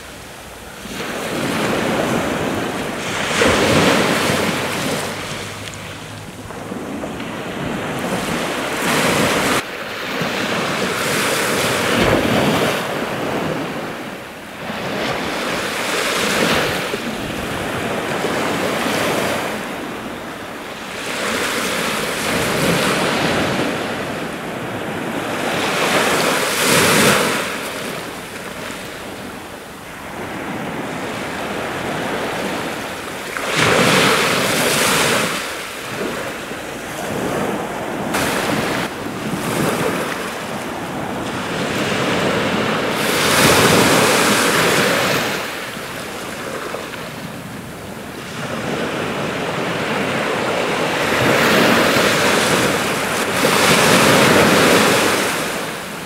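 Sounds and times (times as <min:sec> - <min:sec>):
sea waves breaking: 0:00.0 - 0:56.0
wind buffeting microphone: 0:00.0 - 0:56.0.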